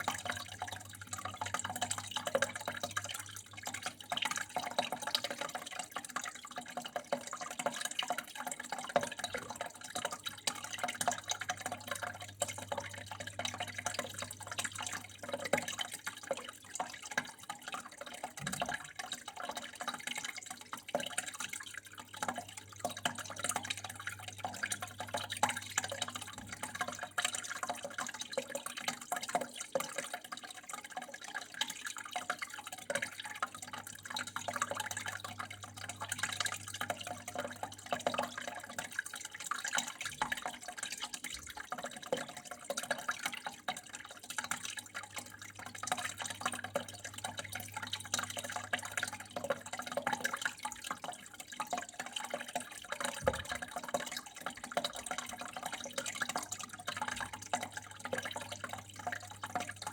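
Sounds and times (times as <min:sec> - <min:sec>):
water flowing and trickling: 0:00.0 - 0:59.9.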